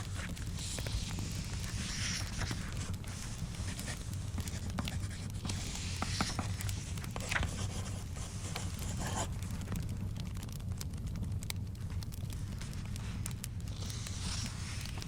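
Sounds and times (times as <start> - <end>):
small crackling clicks: 0.0 - 15.0.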